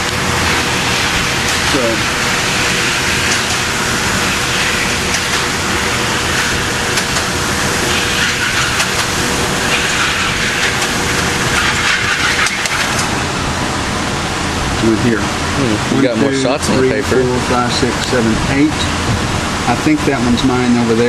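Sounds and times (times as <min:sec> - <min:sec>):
target carrier motor hum: 0:00.0 - 0:21.0.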